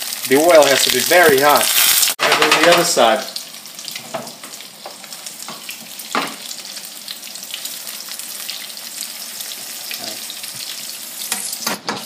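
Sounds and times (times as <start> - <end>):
fish sizzling in hot oil: 0.0 - 2.2, 2.9 - 12.0.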